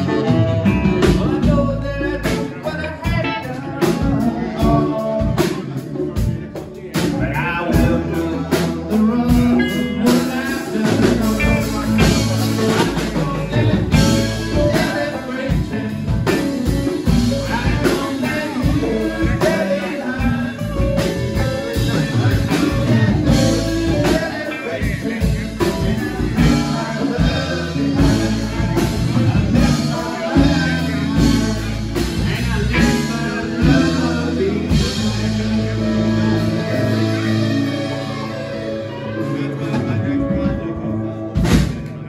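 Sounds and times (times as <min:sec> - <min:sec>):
drums with steady beat: 0:00.0 - 0:38.7, 0:41.3 - 0:42.0
electric guitars: 0:00.0 - 0:42.0
keyboard: 0:00.0 - 0:42.0
person singing: 0:00.0 - 0:42.0.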